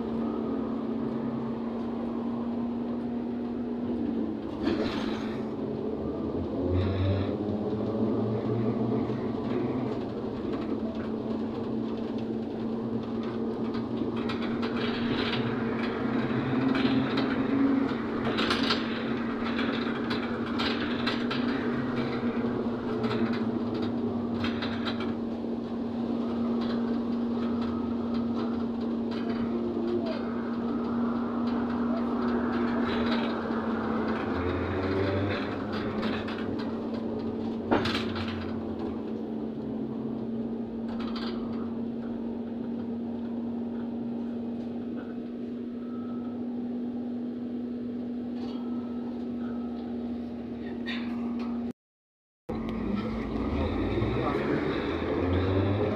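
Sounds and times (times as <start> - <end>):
traction motor whine: 0.0 - 50.3, 52.5 - 55.9
road rumble: 0.0 - 51.7, 52.5 - 55.9.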